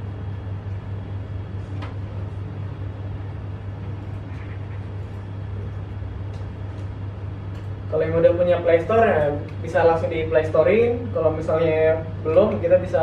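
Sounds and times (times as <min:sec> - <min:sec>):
low room hum and rumble: 0:00.0 - 0:13.0.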